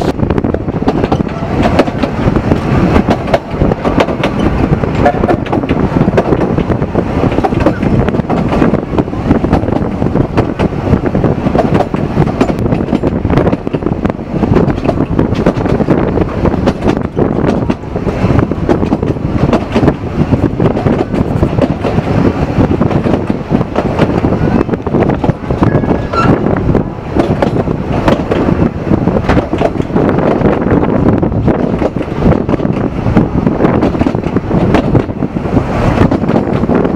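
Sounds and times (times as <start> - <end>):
carriages clacking: 0.0 - 36.9
train wheels rumbling on rail: 0.0 - 36.9.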